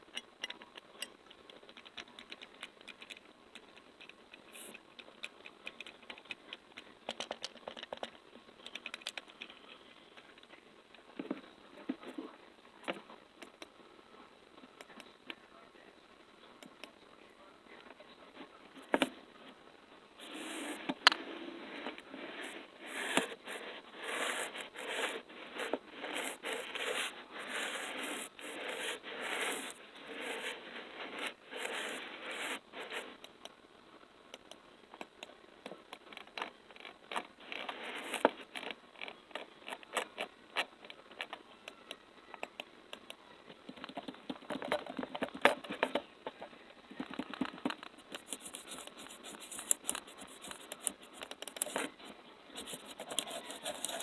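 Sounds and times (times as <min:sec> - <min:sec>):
sticky scratchy noises: 0:00.0 - 0:13.7, 0:17.8 - 0:33.4, 0:34.4 - 0:54.0.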